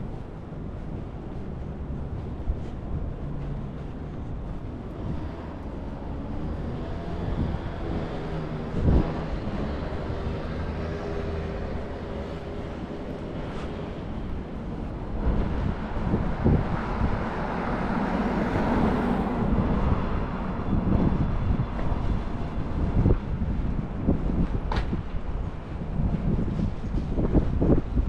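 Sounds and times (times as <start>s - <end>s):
vehicles passing: 0.0s - 28.0s
wind rumble on microphone: 0.0s - 28.0s.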